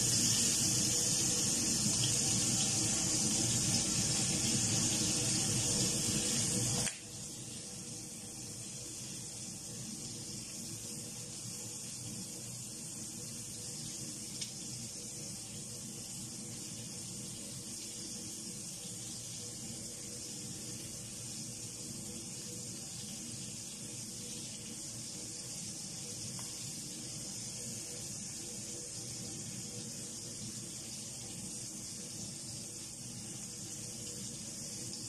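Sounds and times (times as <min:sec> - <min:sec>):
seafood sizzling in hot oil: 0:00.0 - 0:35.0.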